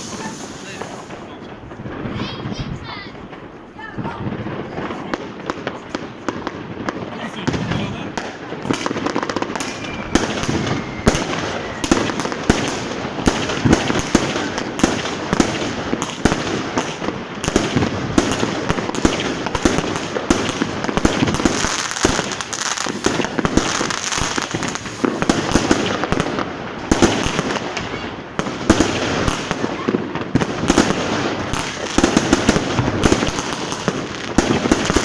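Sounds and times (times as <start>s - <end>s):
fireworks and firecrackers exploding: 0.0s - 35.0s.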